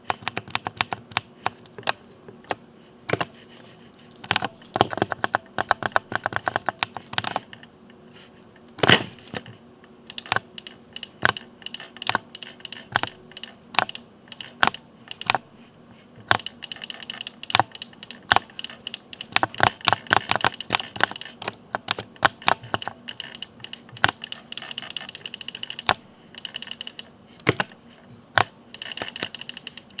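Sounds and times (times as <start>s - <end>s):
mechanical keyboard keystroke clacks: 0.0s - 3.4s, 4.1s - 7.7s, 8.6s - 15.5s, 16.2s - 30.0s.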